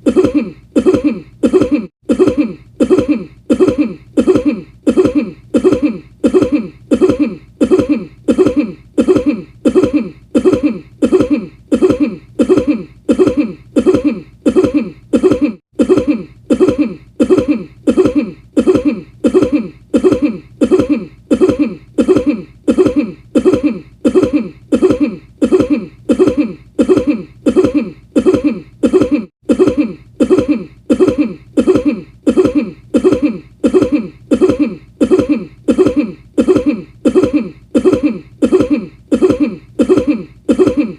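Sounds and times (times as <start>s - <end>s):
person coughing: 0.0s - 40.9s.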